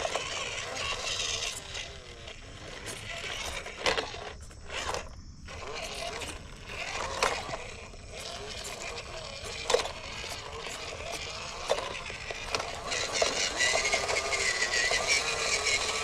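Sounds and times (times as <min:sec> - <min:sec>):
electric motor whining: 0:00.0 - 0:16.0
rc truck running noise: 0:00.0 - 0:16.0.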